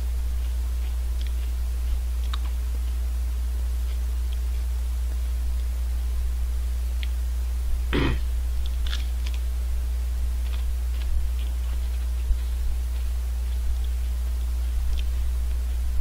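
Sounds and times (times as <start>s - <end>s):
chewing and crunching wafer cone: 0.0s - 16.0s
small crisp crackles: 0.0s - 16.0s
steady low hum: 0.0s - 16.0s.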